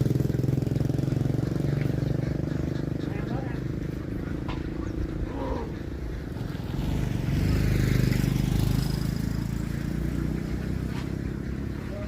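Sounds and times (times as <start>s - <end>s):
engine running low throb: 0.0s - 12.0s.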